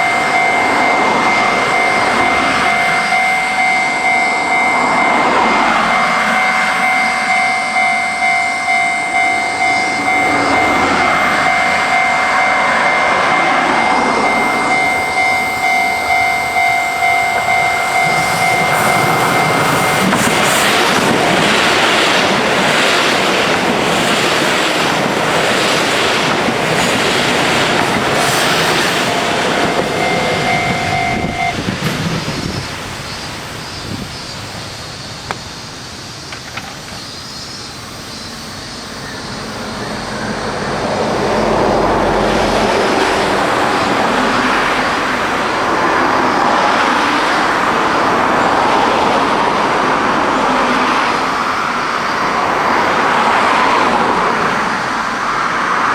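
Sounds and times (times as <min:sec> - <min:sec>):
steady whining tone: 0:00.0 - 0:55.3
train wheels on rails: 0:00.0 - 0:55.9.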